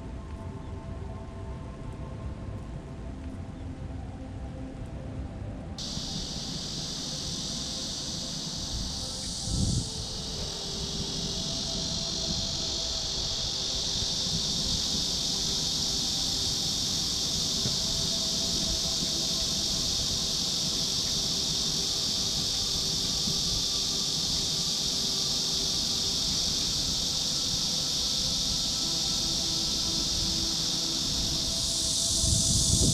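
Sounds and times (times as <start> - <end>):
high-pitched insect chorus: 5.8 - 32.9.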